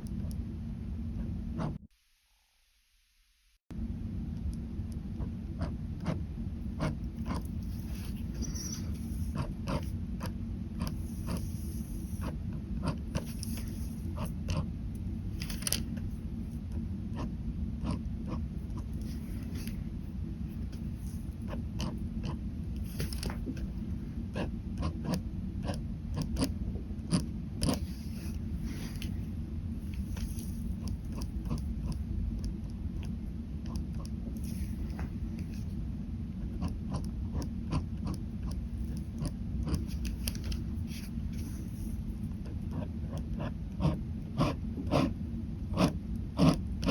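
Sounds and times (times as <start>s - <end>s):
low hum: 3.7s - 46.9s
pen scratching on paper: 5.2s - 14.7s, 15.4s - 19.8s, 20.5s - 29.2s, 29.8s - 35.8s, 36.4s - 46.9s.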